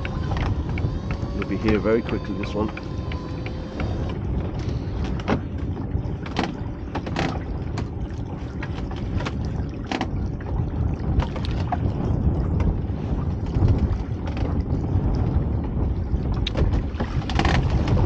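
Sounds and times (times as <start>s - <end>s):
water splashing against a boat: 0.0s - 18.0s
wind rumble on microphone: 0.0s - 18.0s.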